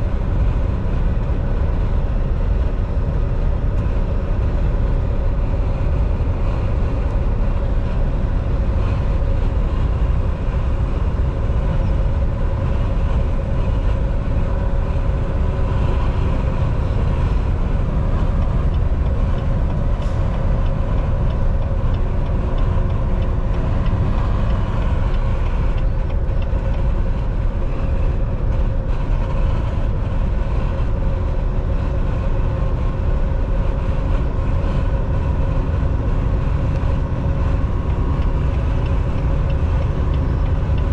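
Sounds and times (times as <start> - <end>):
steady hum: 0.0 - 40.9
truck cab road drone: 0.0 - 40.9.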